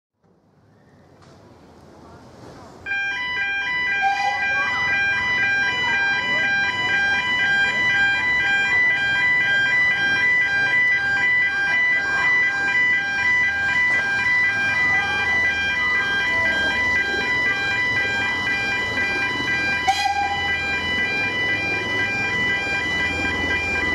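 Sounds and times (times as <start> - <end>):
level crossing warning alarm: 2.8 - 23.9.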